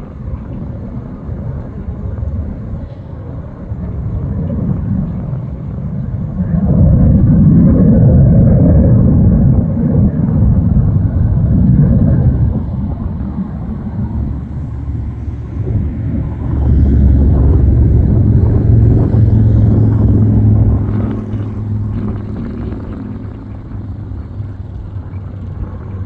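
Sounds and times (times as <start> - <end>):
distant jet engine rumble: 0.0 - 26.0.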